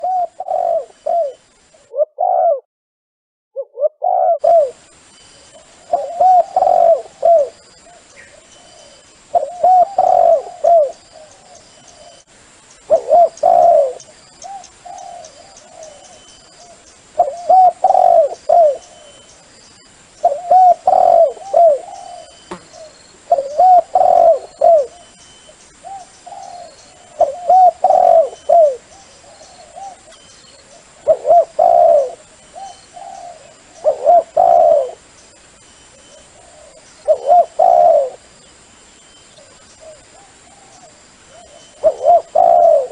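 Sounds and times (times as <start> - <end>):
dove cooing: 0.0 - 2.6, 3.6 - 4.8, 5.6 - 12.2, 12.9 - 19.3, 20.2 - 25.2, 25.8 - 35.0, 35.9 - 38.3, 39.4 - 42.9.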